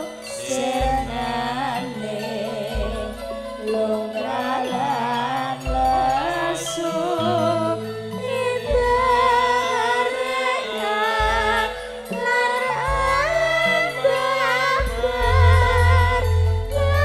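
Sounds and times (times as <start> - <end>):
gamelan music: 0.0 - 17.0
woman singing: 0.0 - 17.0.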